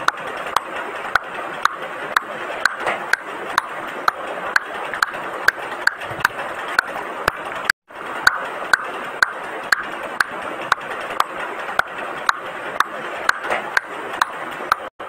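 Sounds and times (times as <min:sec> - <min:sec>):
even sharp ticking: 0:00.0 - 0:14.9.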